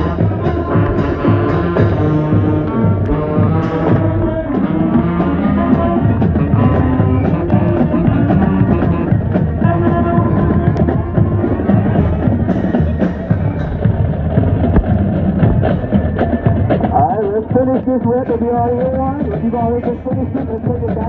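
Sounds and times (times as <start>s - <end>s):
loud band music: 0.0s - 21.0s.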